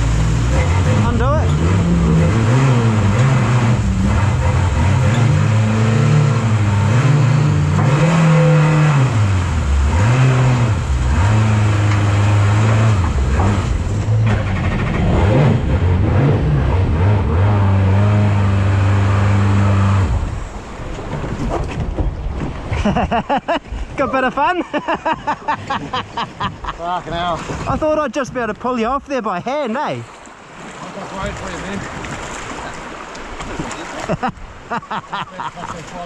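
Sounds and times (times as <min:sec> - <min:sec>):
boat engine revving: 0:00.0 - 0:36.0.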